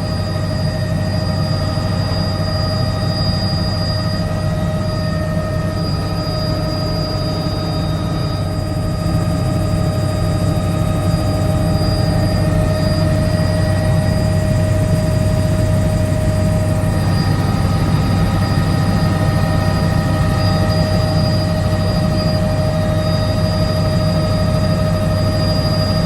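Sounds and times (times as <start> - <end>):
helicopter rotor drone: 0.0 - 26.0
steady whining tones: 0.0 - 26.0.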